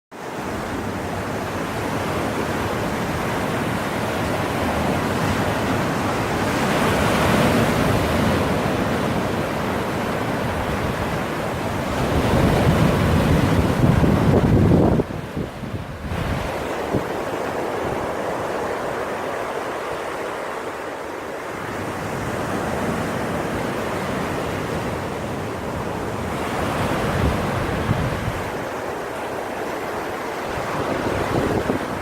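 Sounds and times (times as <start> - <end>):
ocean waves breaking on beach: 0.1 - 32.0.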